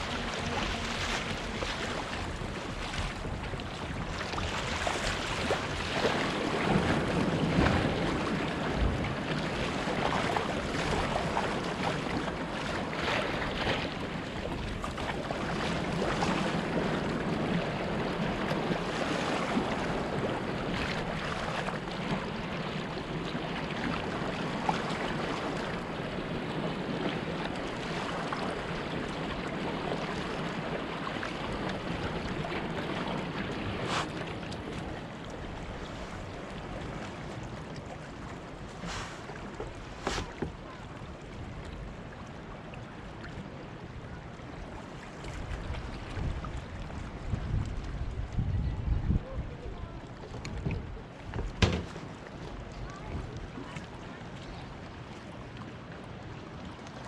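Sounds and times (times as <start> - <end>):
wind on microphone: 0.0 - 41.7, 45.2 - 51.9
sea water splashing: 0.0 - 48.4, 49.2 - 57.0.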